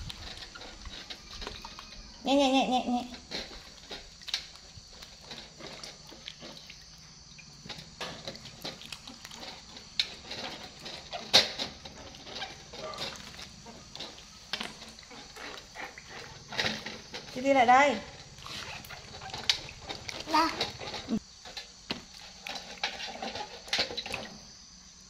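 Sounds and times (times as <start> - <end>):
water splashing in metal basin: 0.0 - 21.2, 21.9 - 24.4.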